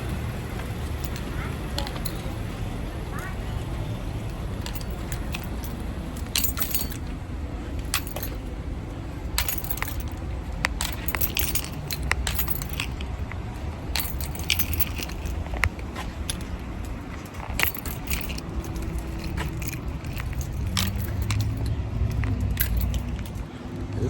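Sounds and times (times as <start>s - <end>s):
light metallic jingling: 0.6s - 2.7s, 4.5s - 24.0s
low rumble of movement: 3.7s - 24.0s.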